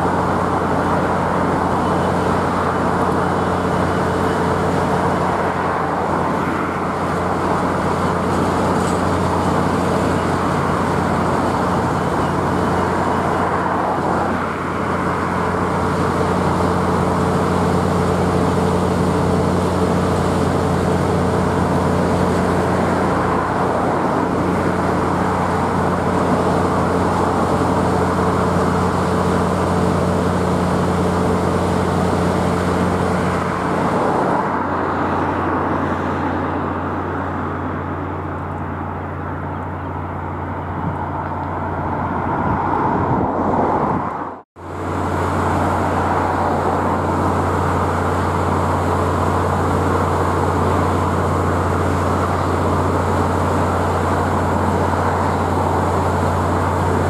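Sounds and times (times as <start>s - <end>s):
freight wagons rumbling on rails: 0.0s - 57.0s
low diesel engine drone: 0.0s - 57.0s.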